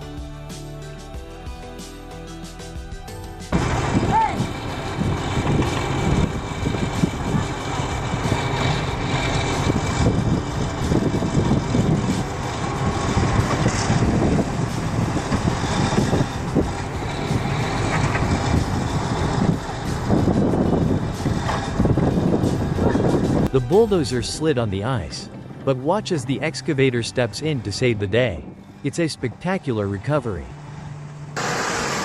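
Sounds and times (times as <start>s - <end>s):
heavy vehicle engine rumble: 3.5s - 32.0s
road noise: 3.5s - 32.0s
wind: 3.5s - 32.0s.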